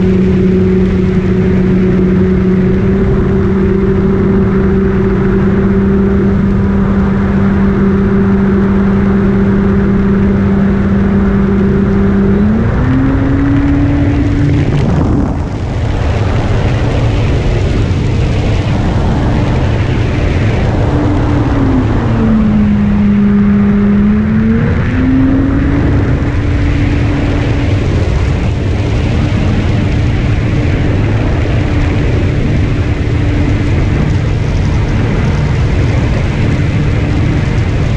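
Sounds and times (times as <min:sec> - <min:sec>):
airflow rushing: 0:00.0 - 0:37.9
electric motor and propeller drone: 0:00.0 - 0:37.9.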